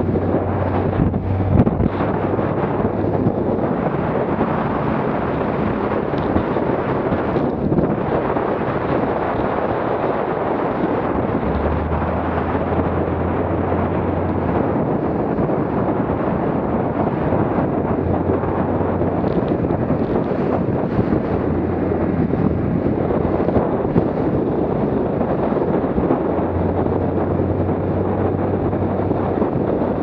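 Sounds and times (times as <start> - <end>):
boat hull rushing through water: 0.0 - 30.0
outboard motor drone: 0.0 - 30.0
wind buffeting microphone: 0.0 - 30.0.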